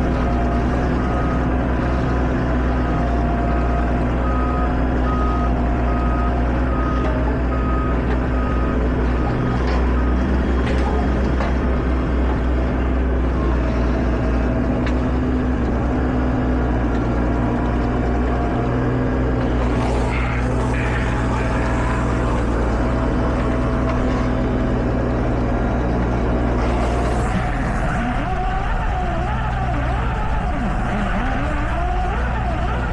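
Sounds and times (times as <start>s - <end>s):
farm vehicle engine running: 0.0s - 32.9s.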